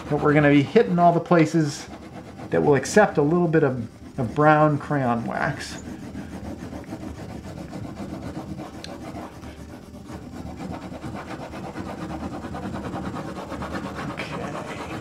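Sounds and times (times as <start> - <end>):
crayon scrubbing on paper: 0.0 - 15.0.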